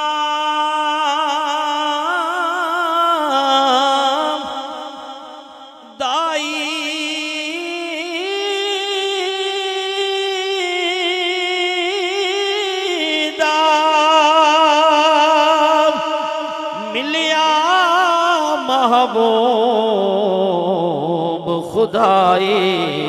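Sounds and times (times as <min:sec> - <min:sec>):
man singing long wavering notes: 0:00.0 - 0:23.0.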